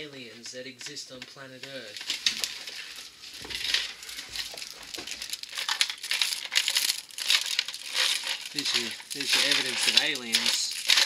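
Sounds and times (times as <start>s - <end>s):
crinkling and rustling handling: 0.0s - 11.0s.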